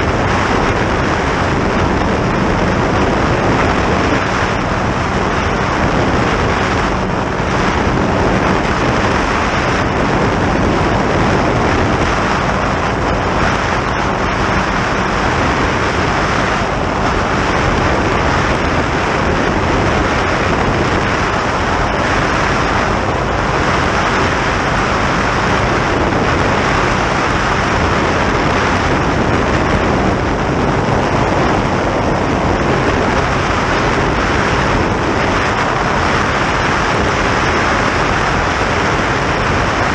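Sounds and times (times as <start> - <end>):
low engine hum: 0.0 - 39.9
wind rushing over microphone: 0.0 - 39.9.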